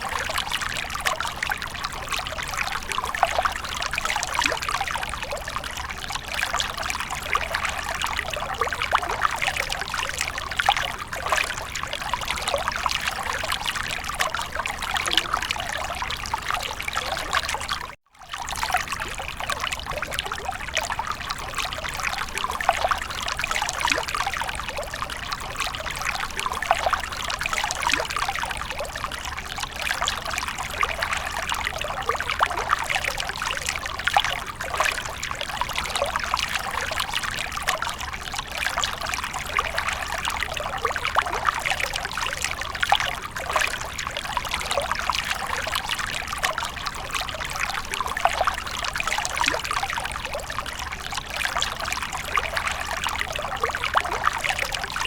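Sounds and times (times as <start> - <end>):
water fountain trickling: 0.0 - 55.0.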